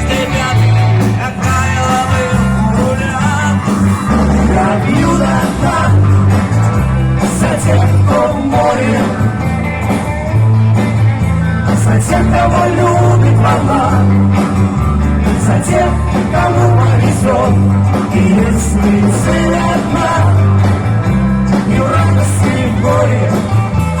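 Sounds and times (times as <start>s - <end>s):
live pop-rock band music: 0.0s - 24.0s.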